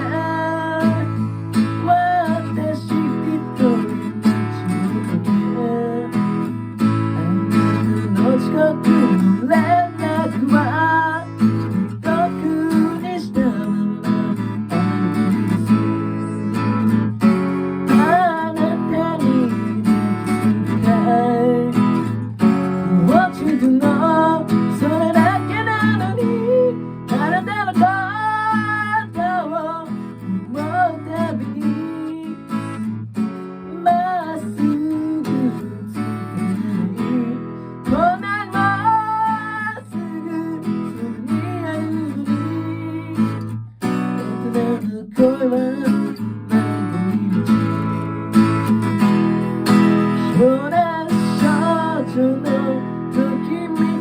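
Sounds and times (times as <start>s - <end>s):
person singing: 0.0s - 32.9s, 33.7s - 48.2s, 49.5s - 54.0s
acoustic guitar strumming: 0.0s - 54.0s.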